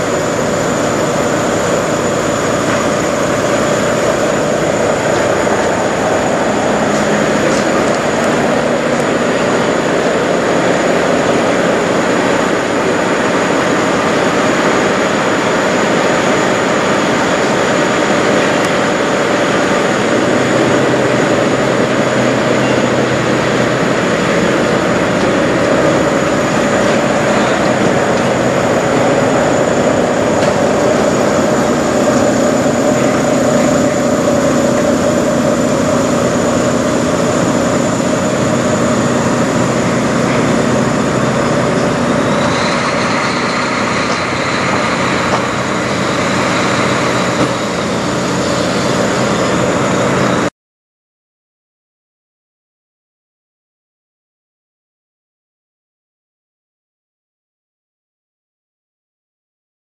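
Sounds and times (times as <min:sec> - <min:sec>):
diesel truck engine idling: 0:00.0 - 0:50.5.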